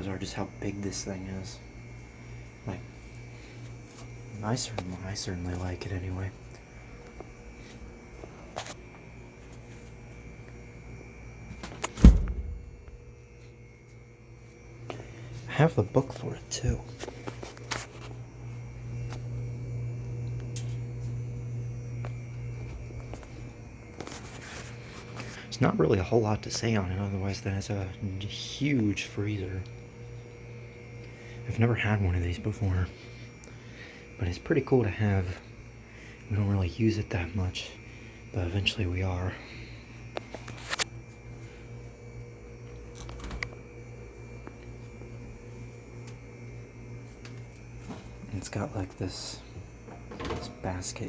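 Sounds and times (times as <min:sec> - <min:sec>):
freezer compressor humming: 0:00.0 - 0:51.0.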